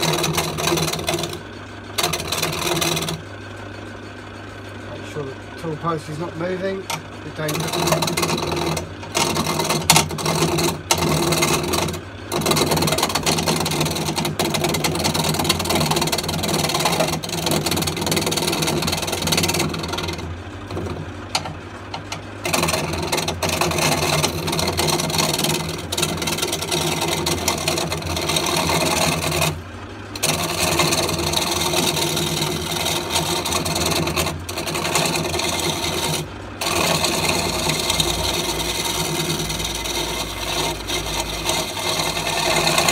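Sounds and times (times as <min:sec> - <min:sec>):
gouge scraping spinning wood: 0:00.0 - 0:42.9
wood lathe humming: 0:00.0 - 0:42.9.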